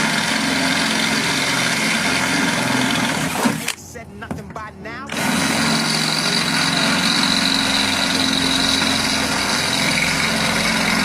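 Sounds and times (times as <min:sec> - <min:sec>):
power drill drilling metal: 0:00.0 - 0:03.8, 0:05.1 - 0:11.0.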